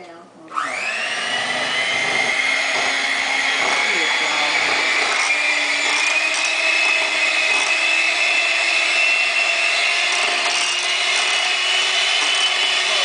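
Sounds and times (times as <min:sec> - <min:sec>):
electric hand mixer whirring: 0:00.5 - 0:13.0.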